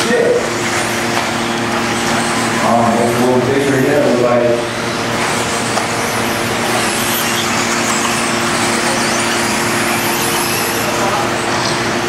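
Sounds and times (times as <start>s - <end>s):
rc cars whirring: 0.0s - 12.0s.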